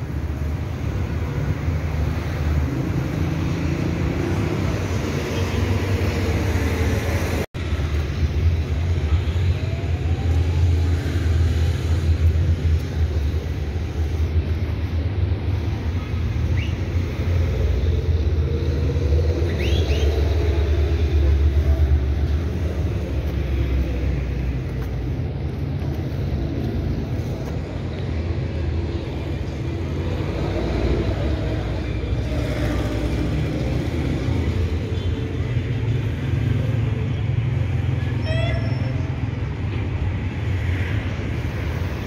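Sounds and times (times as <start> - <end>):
cars on city road rumbling: 0.0 - 42.0.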